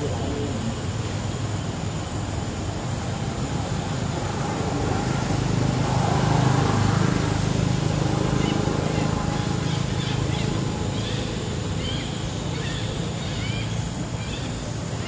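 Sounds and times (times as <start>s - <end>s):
vehicle engine droning: 2.5s - 14.8s.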